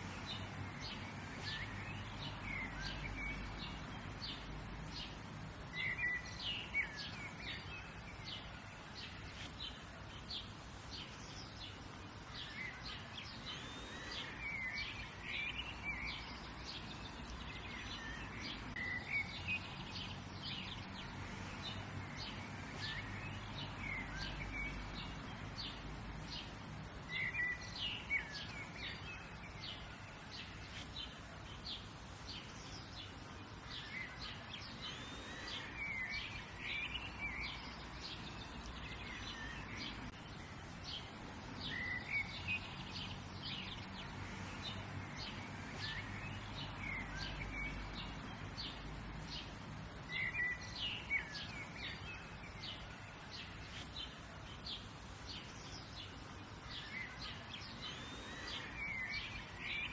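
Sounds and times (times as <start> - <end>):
birds chirping and singing: 0.0 - 59.9
steady background hiss: 0.0 - 59.9.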